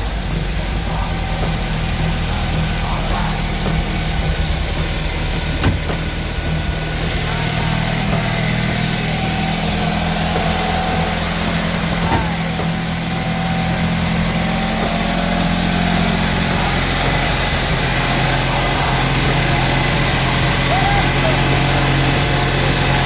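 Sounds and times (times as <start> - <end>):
two-cylinder engine idling: 0.0 - 23.0.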